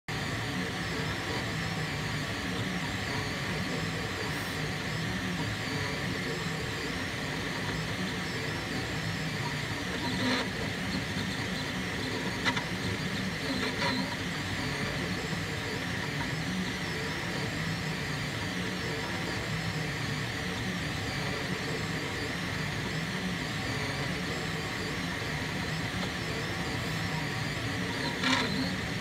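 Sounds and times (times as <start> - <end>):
printer stepper motors whirring: 0.1 - 29.0.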